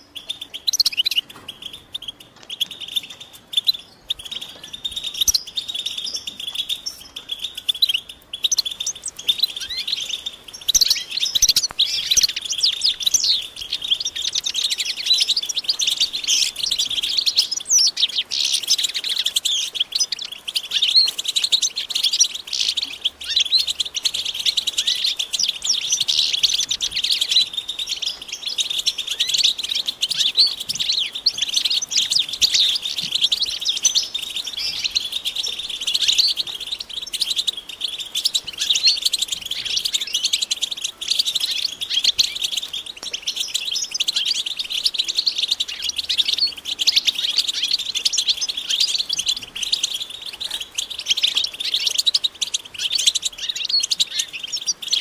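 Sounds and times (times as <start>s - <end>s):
flock of finches twittering: 0.0s - 55.0s.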